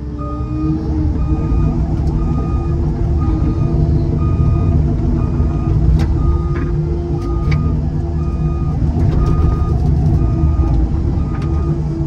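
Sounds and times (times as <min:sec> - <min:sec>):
heavy equipment engine: 0:00.0 - 0:12.0
backup alarm beeping: 0:00.2 - 0:12.0.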